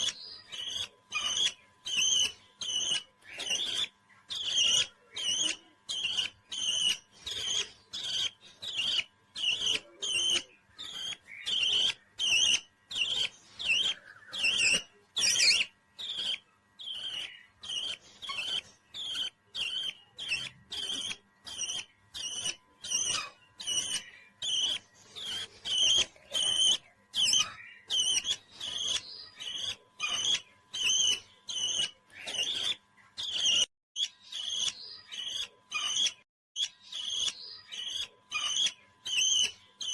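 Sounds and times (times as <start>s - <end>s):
parrot chirping: 0.0s - 39.9s.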